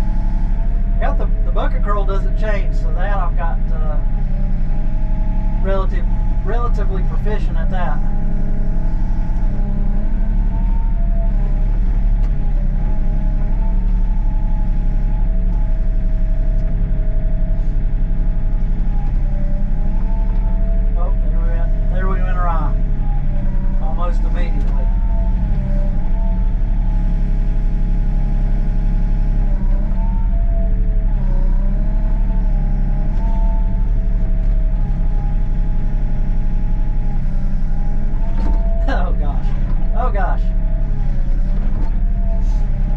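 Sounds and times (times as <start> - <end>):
excavator diesel engine running: 0.0 - 42.9
hydraulic whining: 0.0 - 42.9.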